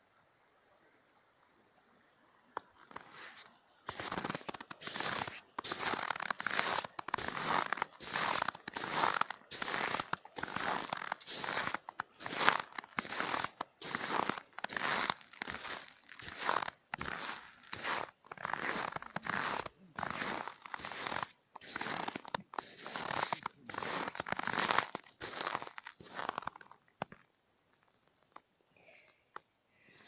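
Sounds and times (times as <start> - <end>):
footsteps crunching on snow: 2.7 - 27.2.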